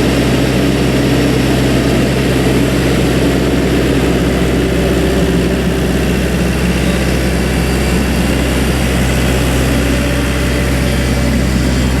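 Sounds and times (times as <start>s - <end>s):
skid steer engine running: 0.0s - 12.0s.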